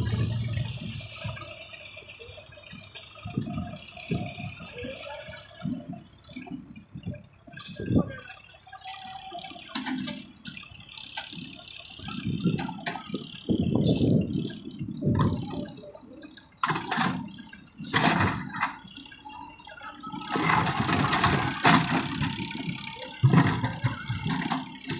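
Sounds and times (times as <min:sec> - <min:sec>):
distant diesel engine running: 0:00.0 - 0:24.9.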